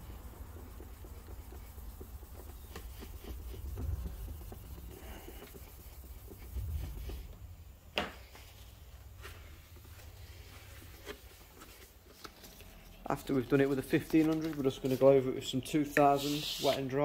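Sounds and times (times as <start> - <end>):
sandpaper rubbing: 0.0 - 7.3, 8.6 - 15.3, 15.9 - 17.0.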